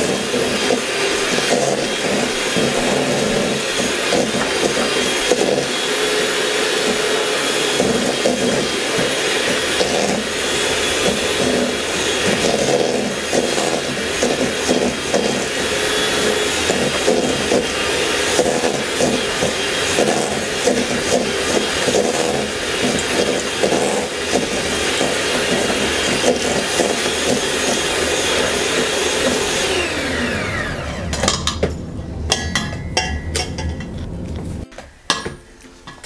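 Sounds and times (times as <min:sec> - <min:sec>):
electric hand mixer running: 0:00.0 - 0:34.7.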